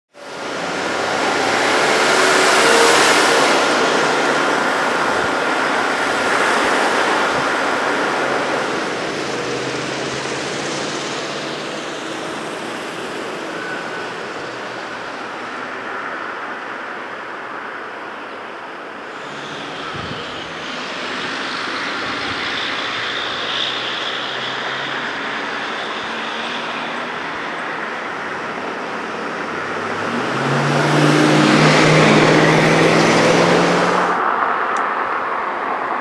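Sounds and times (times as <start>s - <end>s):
cars passing: 0.2s - 36.0s.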